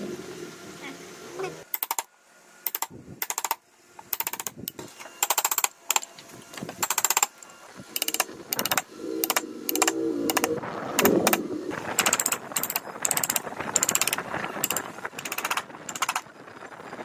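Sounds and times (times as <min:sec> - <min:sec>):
rapid mechanical clicking: 0:01.7 - 0:17.0.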